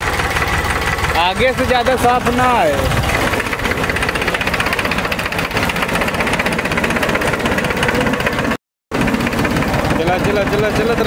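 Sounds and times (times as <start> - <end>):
tractor diesel engine clatter: 0.0 - 11.0.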